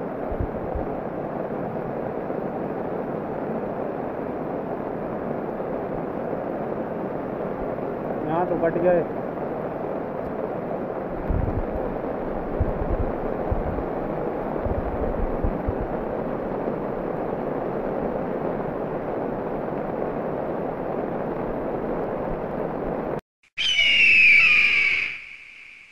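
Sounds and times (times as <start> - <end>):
muddy torrent rushing: 0.0 - 23.2.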